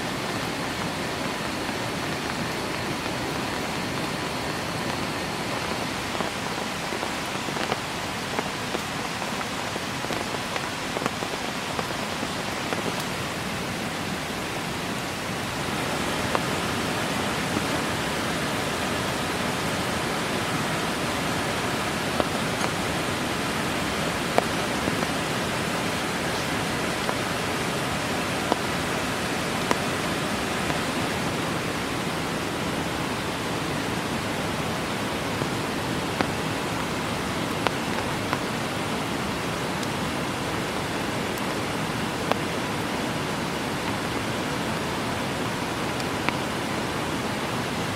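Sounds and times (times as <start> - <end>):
heavy rain hissing: 0.0 - 47.9.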